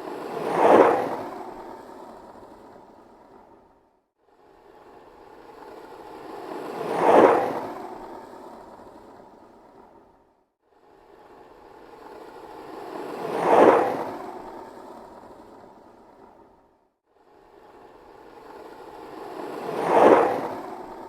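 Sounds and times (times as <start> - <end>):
skateboard wheels rolling past: 0.0 - 3.7, 4.5 - 10.2, 11.2 - 16.6, 17.6 - 21.0.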